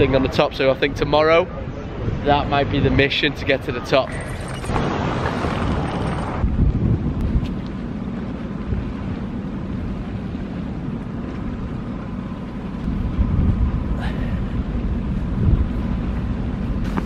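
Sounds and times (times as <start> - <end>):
wind buffeting microphone: 0.0 - 3.9, 4.6 - 17.0.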